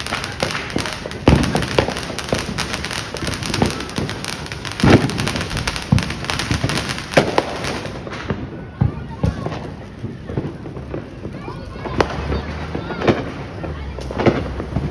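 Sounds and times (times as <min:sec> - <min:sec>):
fireworks crackling and popping: 0:00.0 - 0:14.9
loud firework booms: 0:00.0 - 0:14.9.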